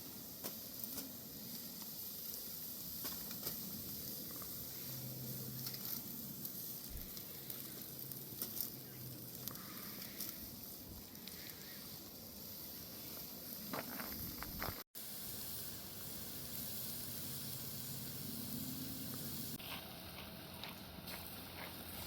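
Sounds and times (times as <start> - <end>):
food sizzling: 0.0 - 22.0.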